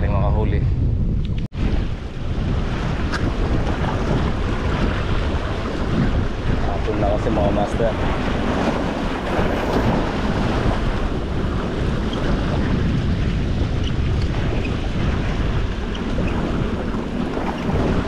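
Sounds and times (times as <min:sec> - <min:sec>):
wind buffeting microphone: 0:00.0 - 0:18.0
sea waves washing: 0:01.5 - 0:18.0.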